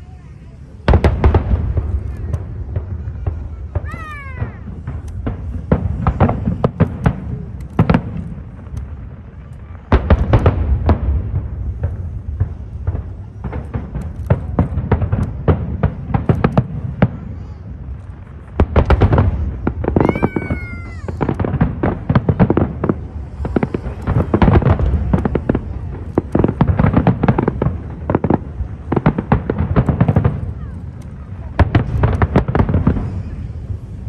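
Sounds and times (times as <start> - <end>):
fireworks booming and crackling: 0.0 - 34.0.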